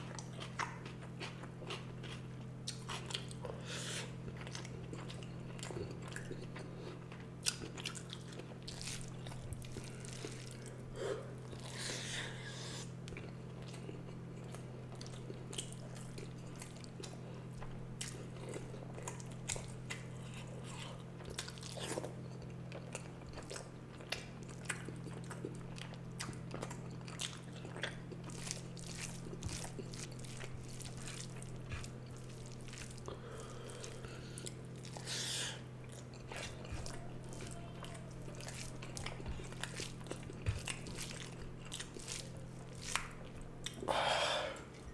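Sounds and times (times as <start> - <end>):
person chewing food: 0.0 - 44.9
steady low hum: 0.0 - 44.9.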